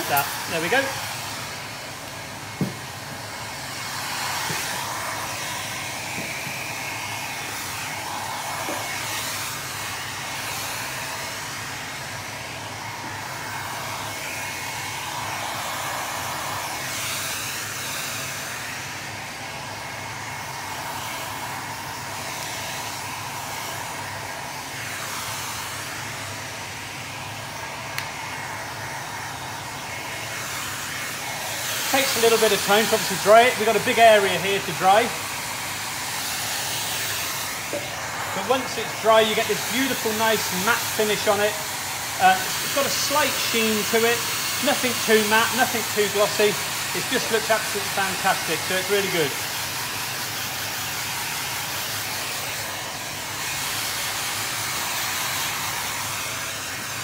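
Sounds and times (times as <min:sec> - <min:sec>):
hot-air dryer blowing: 0:00.0 - 0:57.0.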